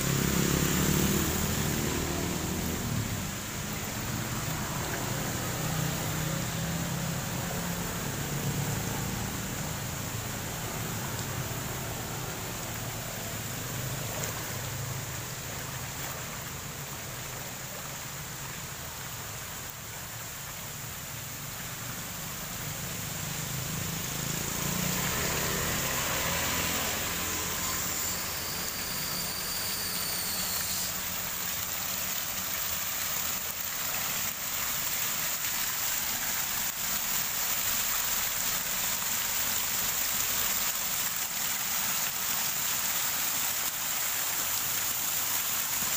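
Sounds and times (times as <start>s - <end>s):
floodwater rushing: 0.0s - 45.9s
motorbike riding through water: 0.0s - 45.9s.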